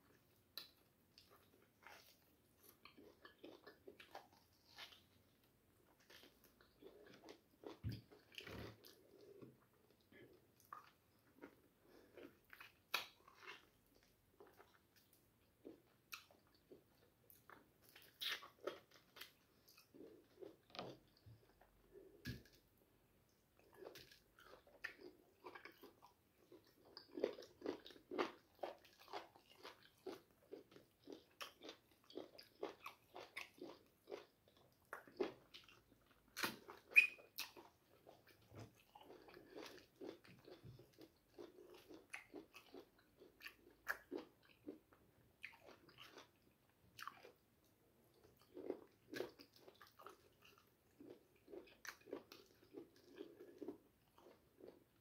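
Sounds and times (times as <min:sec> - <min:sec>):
person chewing and crunching bones: 0:00.5 - 0:22.6, 0:23.6 - 0:47.5, 0:48.1 - 0:55.0.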